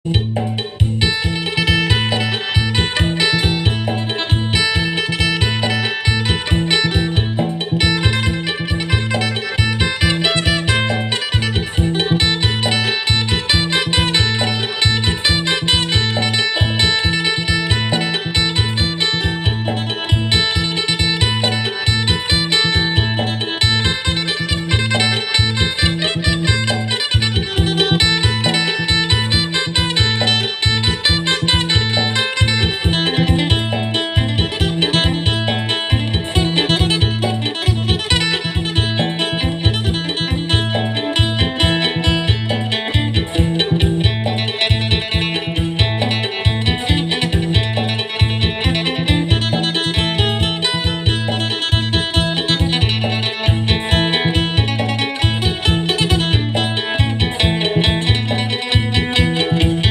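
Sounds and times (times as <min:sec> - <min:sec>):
bass line: 0:00.0 - 0:59.9
drum beat: 0:00.1 - 0:59.9
plucked lute melody: 0:00.1 - 0:59.9.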